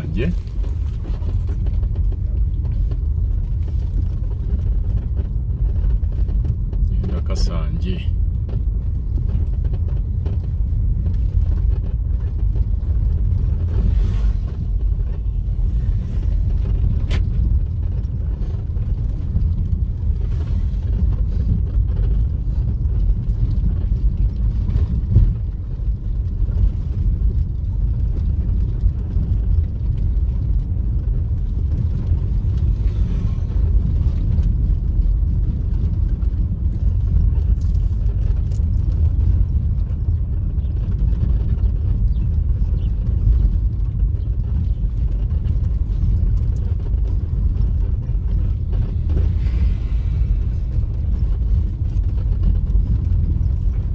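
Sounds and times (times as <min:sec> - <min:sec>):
car driving rumble: 0:00.0 - 0:53.9.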